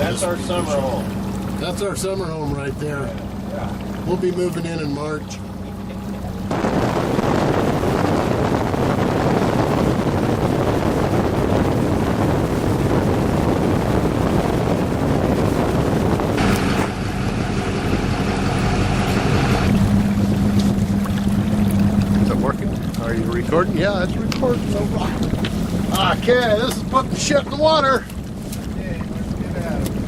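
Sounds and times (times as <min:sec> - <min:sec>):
boat engine hum: 0:00.0 - 0:30.0
rush of wind and water: 0:00.0 - 0:30.0.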